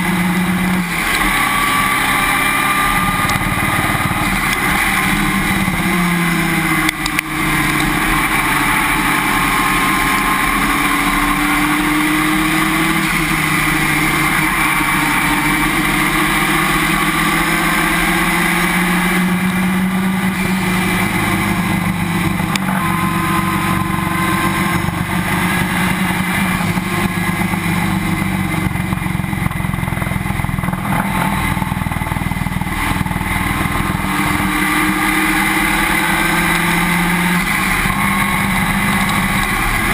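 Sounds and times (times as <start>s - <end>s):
race car engine: 0.0s - 39.9s
road and wind noise: 0.0s - 39.9s.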